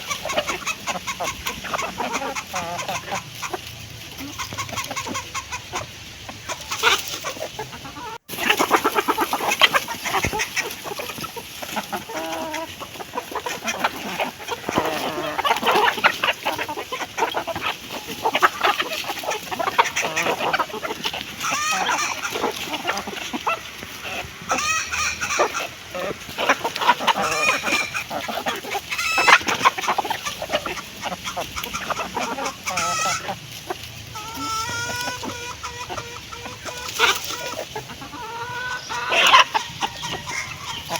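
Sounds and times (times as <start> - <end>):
hen drawn-out calls: 0.0 - 40.9
hens clucking: 0.0 - 40.9.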